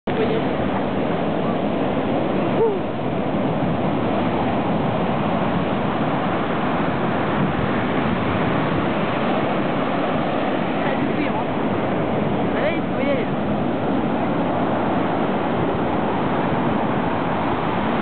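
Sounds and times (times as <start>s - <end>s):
ocean waves rushing: 0.1s - 18.0s.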